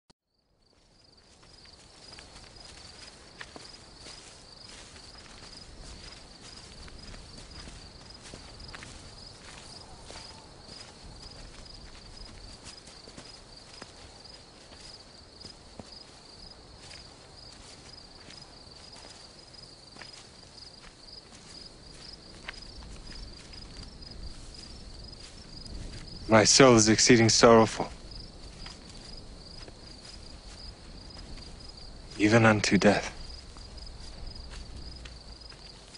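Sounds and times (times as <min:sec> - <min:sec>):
crickets chirping: 0:00.3 - 0:35.9
footsteps through grass: 0:00.6 - 0:35.9
grass rustling: 0:00.7 - 0:35.9.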